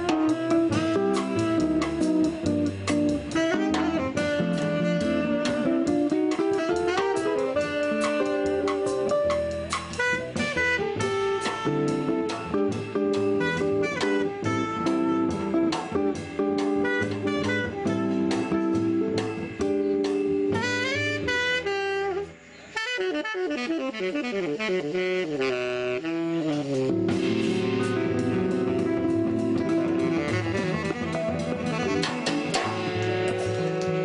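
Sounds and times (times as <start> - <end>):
upright bass: 0.0 - 21.7, 26.6 - 34.0
drums: 0.0 - 34.0
saxophone melody: 0.0 - 34.0.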